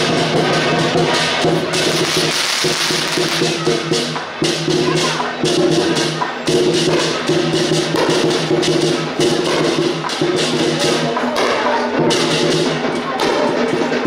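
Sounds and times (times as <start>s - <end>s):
cymbals clashing: 0.0s - 14.0s
drum: 0.0s - 14.0s.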